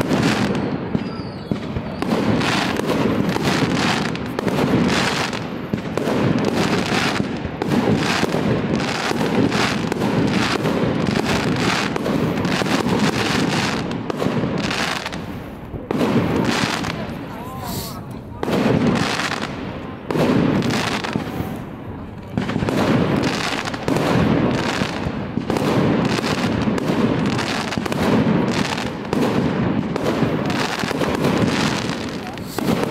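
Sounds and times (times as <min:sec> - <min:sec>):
fireworks bursting: 0:00.0 - 0:32.9.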